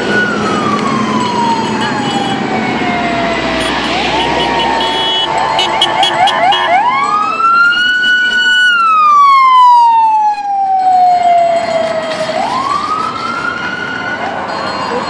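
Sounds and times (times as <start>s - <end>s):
emergency siren wailing: 0.0s - 15.0s
passing car traffic: 0.0s - 15.0s.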